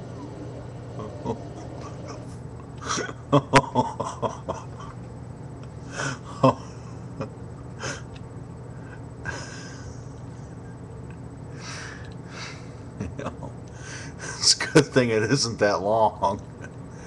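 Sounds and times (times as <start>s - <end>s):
low hum: 0.0s - 15.4s.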